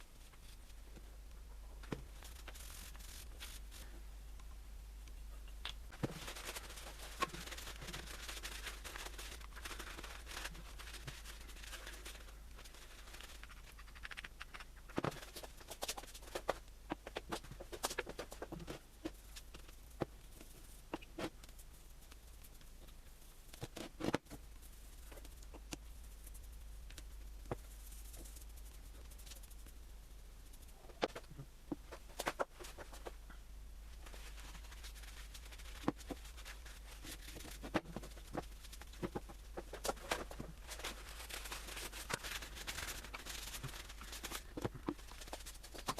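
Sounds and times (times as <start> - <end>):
soft rubbing: 0.0 - 4.0, 5.9 - 45.9
steady low hum: 0.0 - 45.9.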